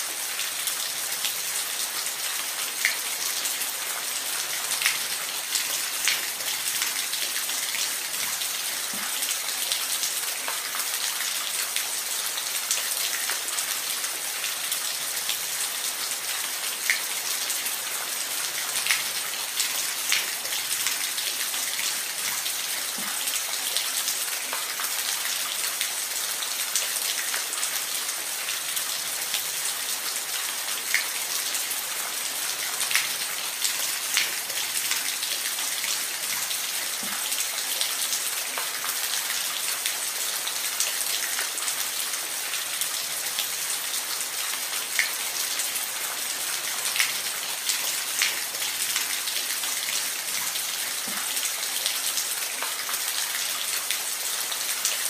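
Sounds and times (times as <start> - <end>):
rain falling in forest: 0.0 - 55.0.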